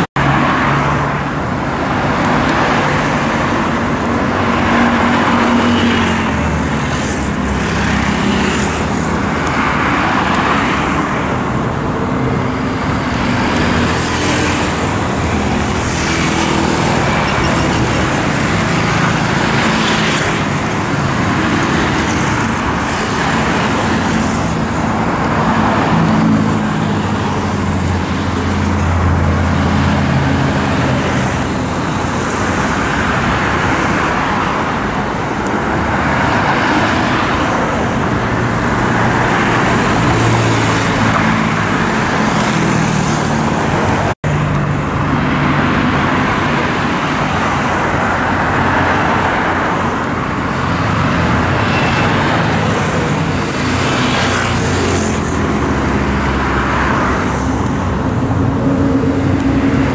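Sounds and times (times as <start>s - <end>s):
vehicles passing on highway: 0.0s - 59.9s.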